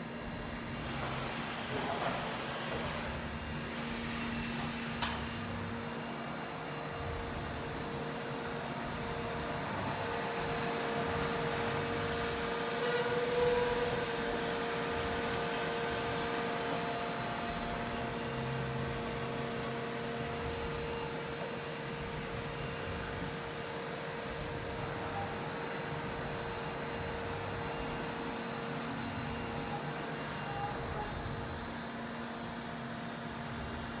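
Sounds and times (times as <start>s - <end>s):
machine steady whine: 0.0s - 34.0s.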